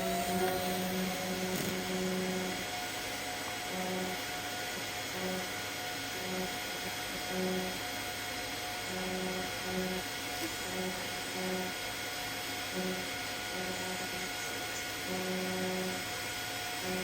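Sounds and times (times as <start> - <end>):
intermittent low buzz: 0.0 - 17.0
welding arc hum and hiss: 0.0 - 17.0.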